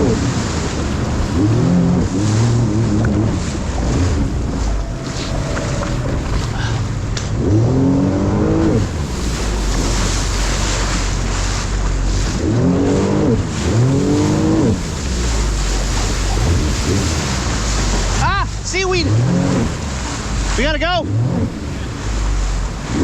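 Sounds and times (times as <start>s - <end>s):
jet ski engine revving: 0.0s - 23.0s
wind and water rush: 0.0s - 23.0s.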